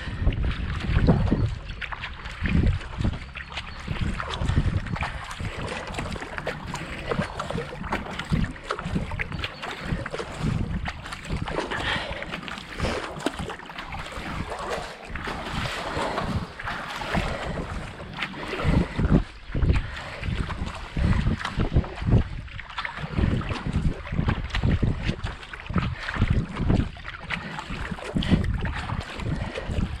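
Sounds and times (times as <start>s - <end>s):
hull moving through water: 0.0s - 30.0s
paddle splashing in water: 0.0s - 30.0s
wind rumble on microphone: 0.0s - 30.0s.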